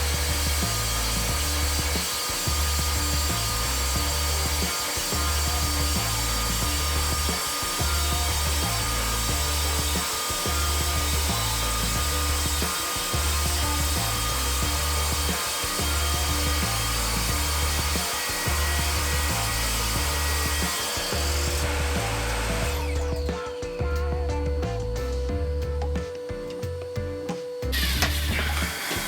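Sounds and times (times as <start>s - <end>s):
saw cutting through masonry: 0.0s - 25.6s, 27.4s - 29.0s
background music with bass line: 0.0s - 29.0s.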